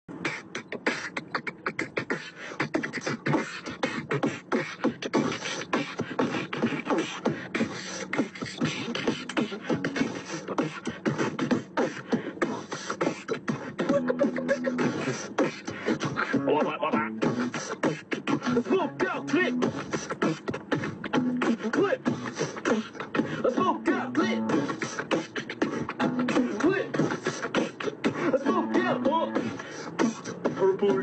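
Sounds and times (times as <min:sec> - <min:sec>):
beatboxing mouth percussion: 0:00.1 - 0:31.0
person humming a pitched line: 0:00.1 - 0:31.0.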